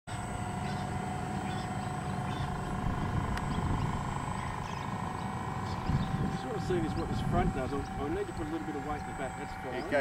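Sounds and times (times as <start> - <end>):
model boat motor whining: 0.1 - 10.0.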